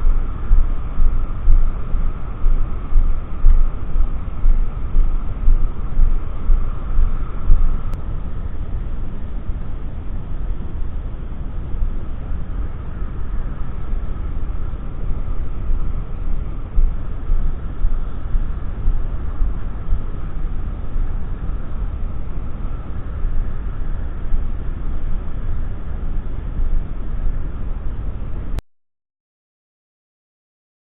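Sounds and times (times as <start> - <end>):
wind buffeting microphone: 0.0 - 28.6.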